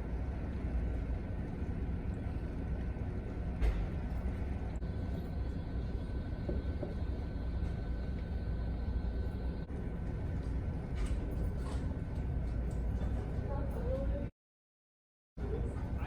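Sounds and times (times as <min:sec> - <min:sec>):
faint constant hum: 0:00.0 - 0:14.3, 0:15.4 - 0:16.0.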